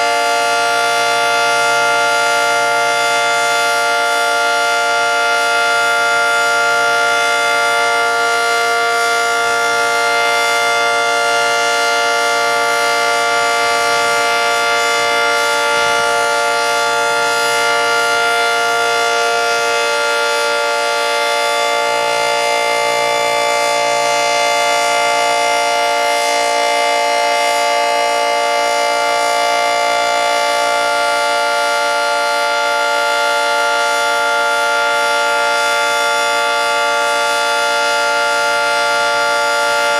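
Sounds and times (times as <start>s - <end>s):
two-tone warning siren: 0.0s - 39.9s.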